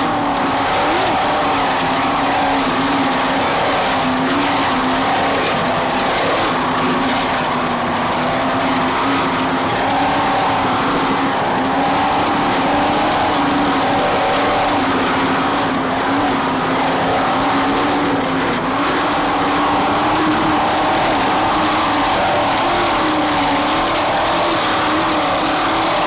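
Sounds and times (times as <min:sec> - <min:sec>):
powerboat engines droning: 0:00.0 - 0:26.0.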